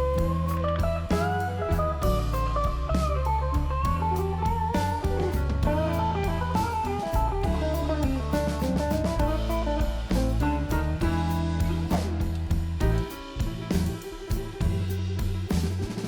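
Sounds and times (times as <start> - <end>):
guitar melody with bass and beat: 0.0 - 16.0.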